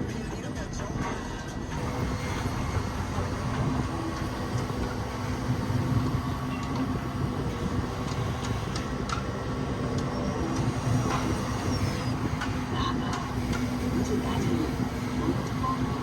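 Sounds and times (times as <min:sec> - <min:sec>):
excavator engine rumbling: 0:00.0 - 0:16.0.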